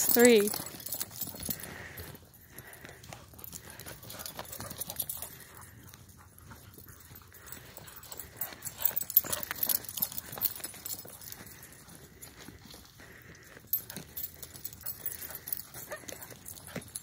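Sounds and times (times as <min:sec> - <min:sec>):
dogs running: 0:00.0 - 0:17.0.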